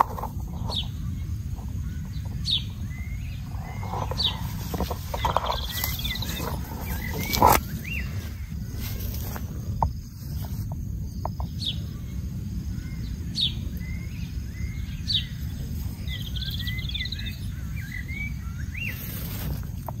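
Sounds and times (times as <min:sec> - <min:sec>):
birds chirping and warbling: 0:00.0 - 0:20.0
low background rumble: 0:00.0 - 0:20.0.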